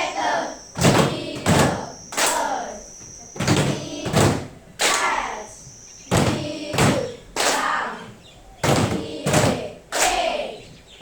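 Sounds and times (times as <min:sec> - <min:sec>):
person reciting letter sounds: 0:00.0 - 0:10.6.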